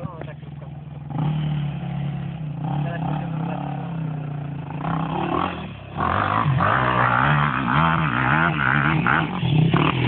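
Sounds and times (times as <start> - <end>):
quad engine revving: 1.0 - 10.0.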